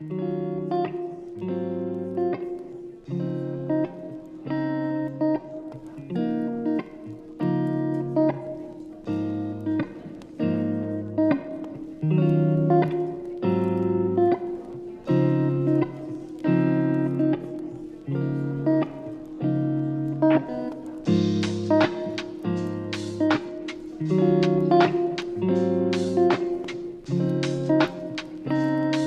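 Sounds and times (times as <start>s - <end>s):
slow guitar chords: 0.0s - 29.0s.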